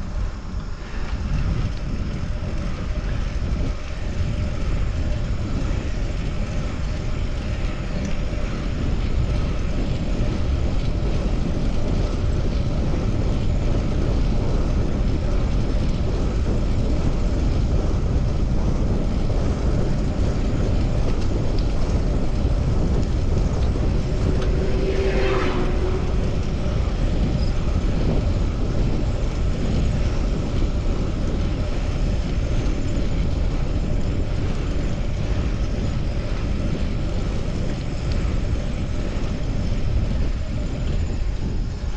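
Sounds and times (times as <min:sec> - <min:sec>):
bicycle road noise: 0:00.0 - 0:41.9
rushing wind: 0:00.0 - 0:41.9.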